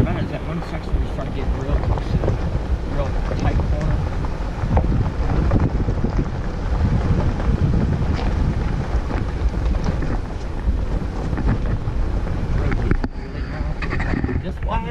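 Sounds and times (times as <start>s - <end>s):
tyres clicking on gravel: 0.0s - 14.9s
vehicle rumbling over rocky track: 0.0s - 14.9s
wind buffeting microphone: 0.0s - 14.9s.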